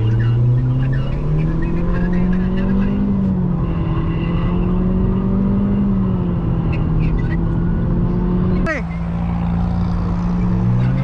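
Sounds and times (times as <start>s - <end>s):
car engine drone: 0.0s - 11.0s
road noise inside car: 0.0s - 11.0s.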